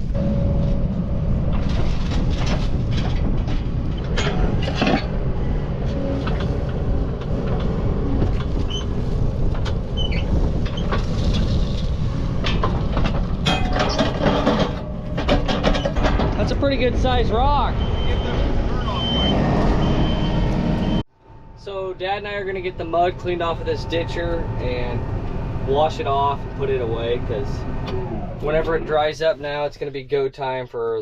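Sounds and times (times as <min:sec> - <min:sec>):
diesel engine running: 0:00.0 - 0:29.4.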